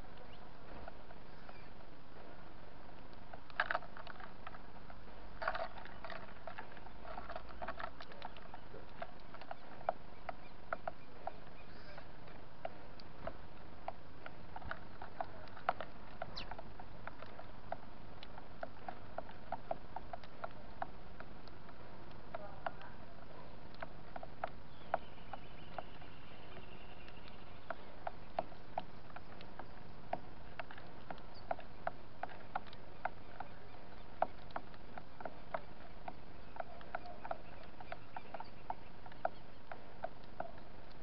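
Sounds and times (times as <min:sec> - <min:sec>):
birds pecking on wooden tray: 0:00.0 - 0:41.0.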